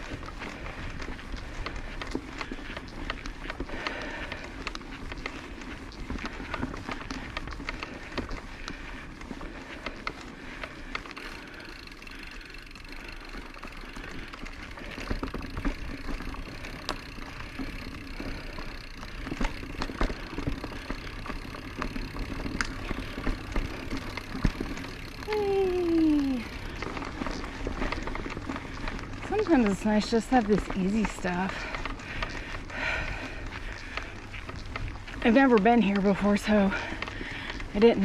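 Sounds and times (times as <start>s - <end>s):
bike tyres rushing on dirt: 0.0s - 38.0s.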